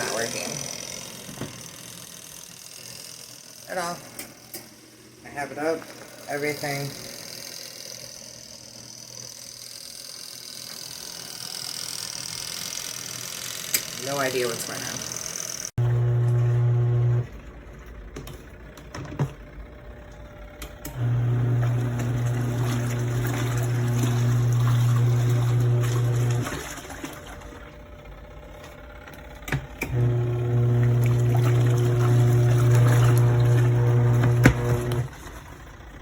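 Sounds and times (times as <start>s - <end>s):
washing machine motor humming: 0.0s - 36.0s.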